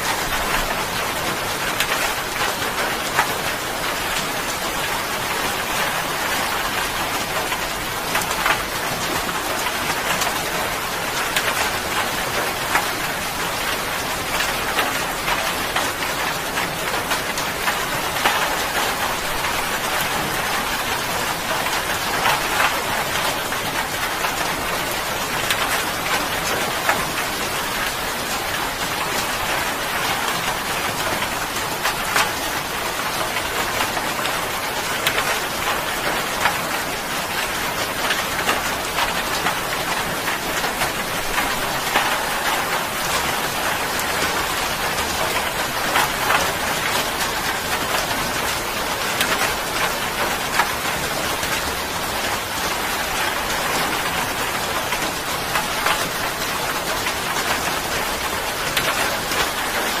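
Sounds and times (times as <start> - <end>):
heavy rain on a hard surface: 0.0 - 60.0.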